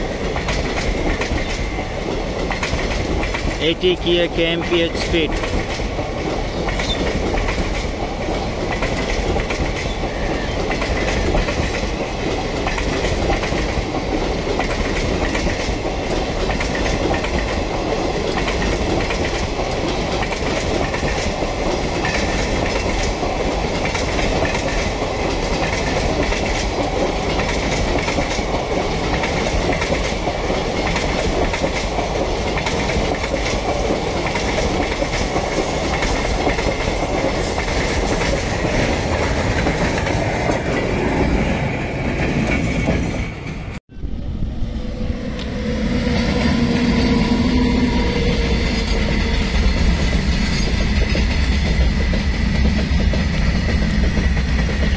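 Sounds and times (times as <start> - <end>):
train wheels clattering: 0.0 - 43.7, 46.0 - 54.9
rumble of train wagons: 0.0 - 54.9.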